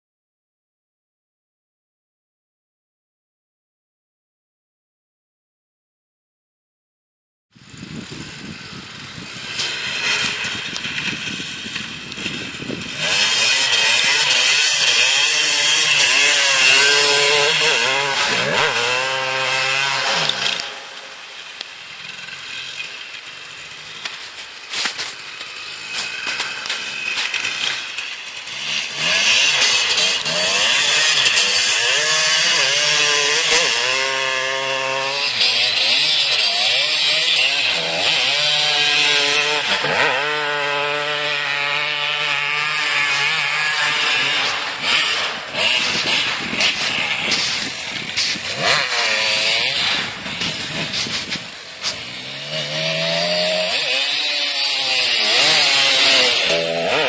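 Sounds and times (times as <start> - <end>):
dirt bike engine revving: 7.6 - 57.0.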